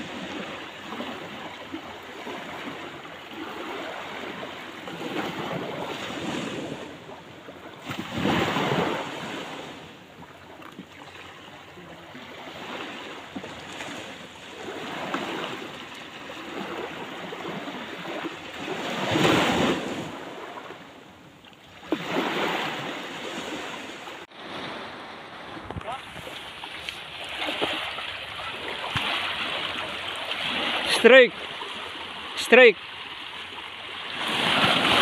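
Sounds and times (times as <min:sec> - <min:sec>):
sea waves washing onto shore: 0:00.0 - 0:35.0.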